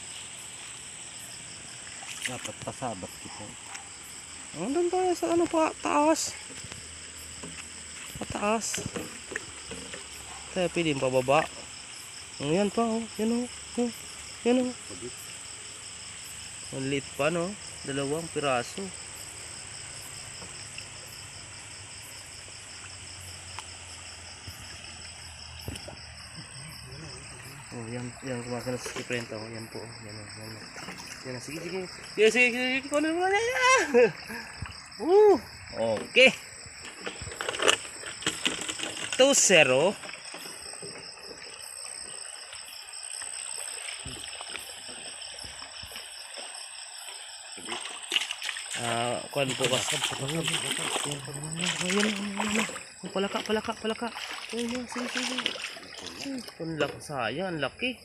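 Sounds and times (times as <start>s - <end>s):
crickets chirping: 0.0s - 58.0s
high insect whine: 0.0s - 58.0s
stream trickling: 0.0s - 58.0s.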